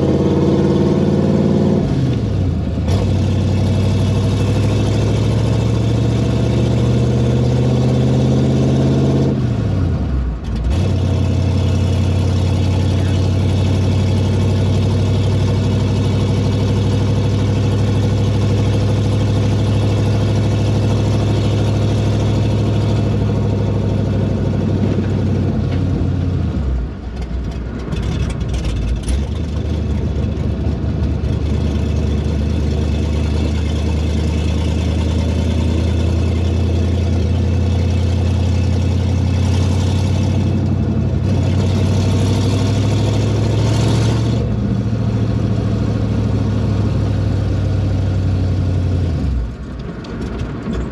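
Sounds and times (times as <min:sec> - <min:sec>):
car engine exhaust drone: 0:00.0 - 0:50.9.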